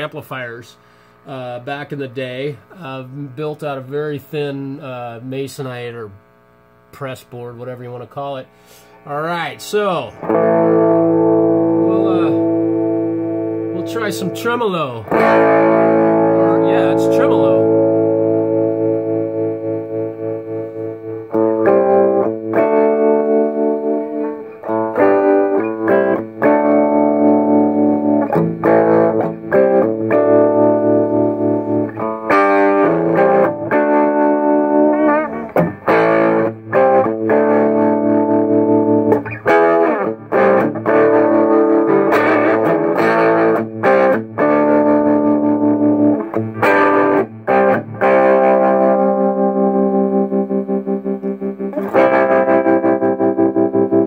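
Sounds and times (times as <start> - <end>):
overdriven electric guitar with tremolo: 8.5 - 54.0.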